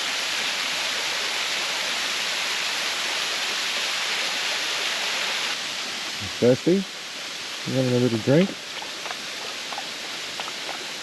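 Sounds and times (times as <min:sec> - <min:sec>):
waterfall splashing: 0:00.0 - 0:11.0.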